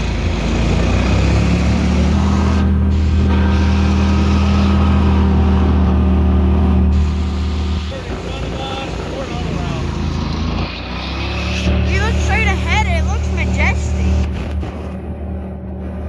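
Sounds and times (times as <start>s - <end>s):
boat engine running hard: 0.0s - 16.0s.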